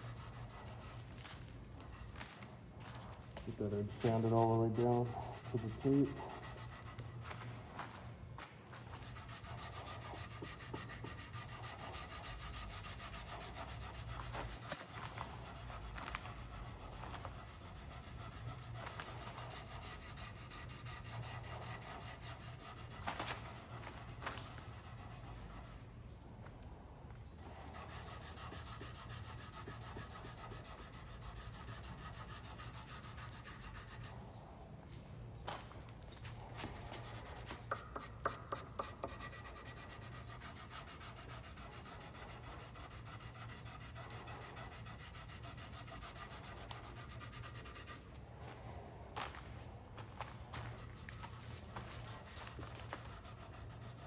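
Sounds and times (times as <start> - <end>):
sandpaper rubbing on epoxy: 0.0 - 2.4, 3.6 - 7.8, 8.8 - 25.9, 27.5 - 34.2, 36.6 - 48.0, 50.6 - 54.0.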